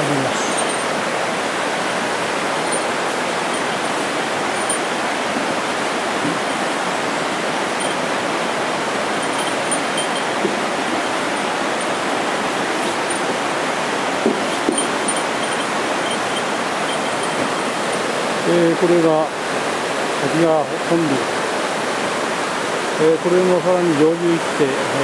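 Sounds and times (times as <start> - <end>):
river water roaring: 0.0 - 25.0.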